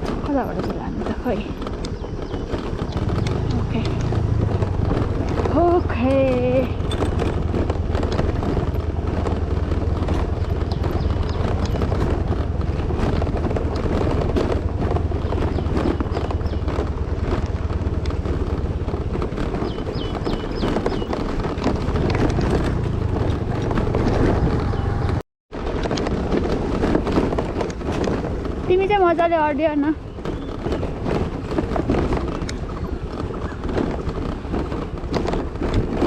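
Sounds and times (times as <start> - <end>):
rattling and knocking from bumps: 0.0 - 36.0
scooter engine running: 0.0 - 36.0
wind on microphone: 0.0 - 36.0.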